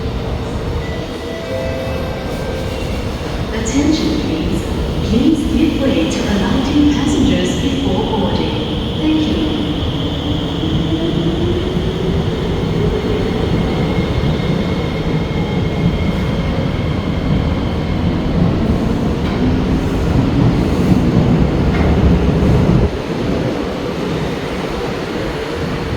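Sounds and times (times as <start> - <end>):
train rumbling: 0.0 - 25.9.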